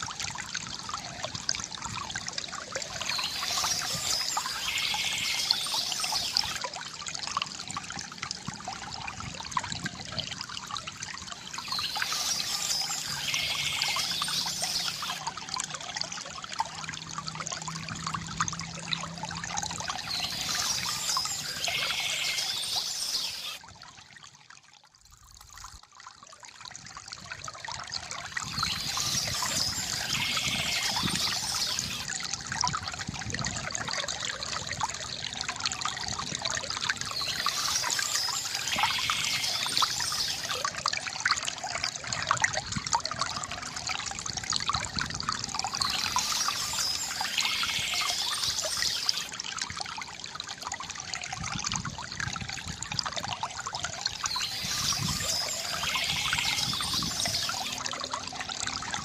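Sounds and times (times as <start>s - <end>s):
stream water over stones: 0.0s - 59.0s.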